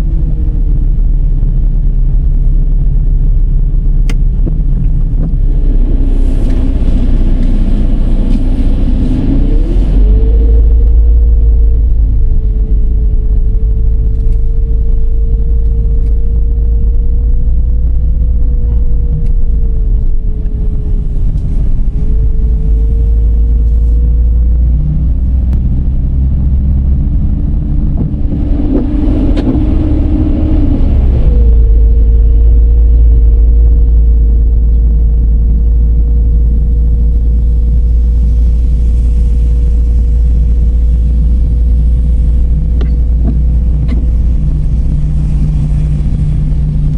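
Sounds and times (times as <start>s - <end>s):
car engine and tyres rumbling: 0.0s - 46.9s
rushing noise with low drone: 0.0s - 46.9s.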